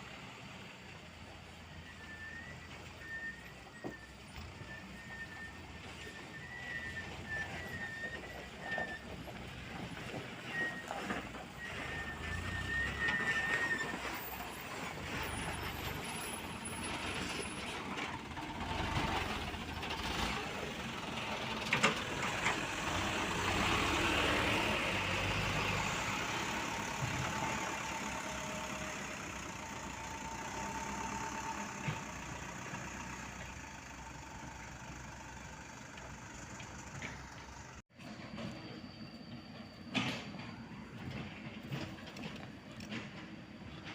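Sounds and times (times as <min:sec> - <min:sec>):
diesel engines working: 0:00.0 - 0:43.9.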